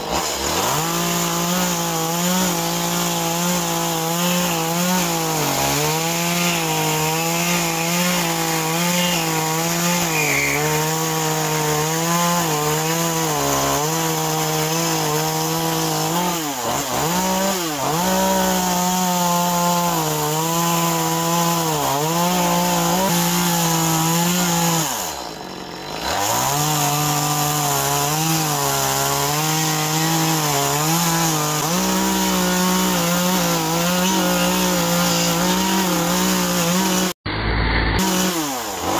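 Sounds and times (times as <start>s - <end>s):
chainsaw cutting into a log: 0.0s - 38.9s.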